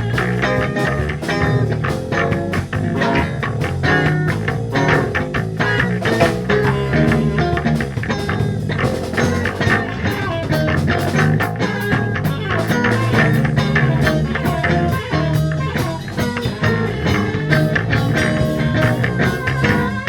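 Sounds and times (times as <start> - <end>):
bass guitar: 0.0 - 20.0
drum kit beat: 0.0 - 20.0
electric guitar: 0.0 - 20.0.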